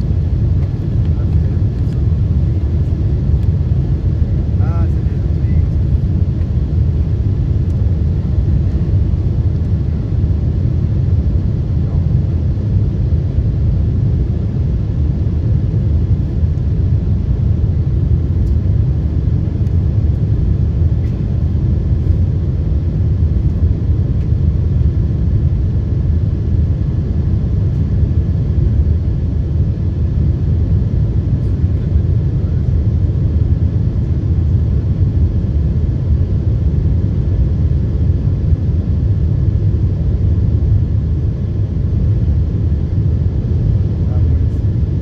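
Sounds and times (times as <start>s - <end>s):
airplane cabin rumble: 0.0s - 45.0s.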